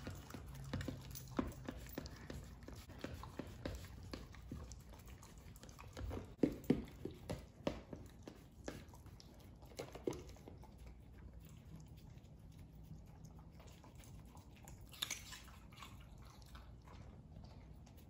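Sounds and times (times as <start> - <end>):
dog chewing: 0.0 - 18.0.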